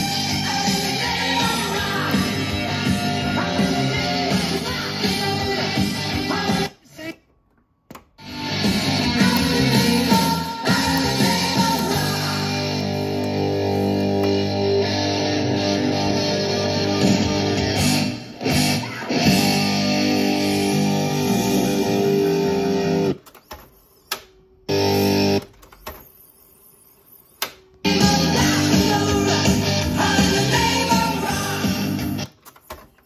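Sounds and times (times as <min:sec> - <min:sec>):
guitar music from boombox speakers: 0:00.0 - 0:06.7, 0:08.2 - 0:23.2, 0:24.7 - 0:25.4, 0:27.9 - 0:32.3.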